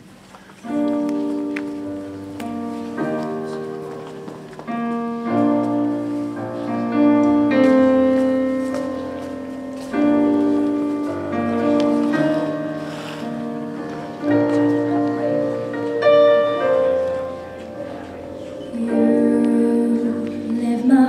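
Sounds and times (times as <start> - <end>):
piano playing held chords: 0.0 - 21.0.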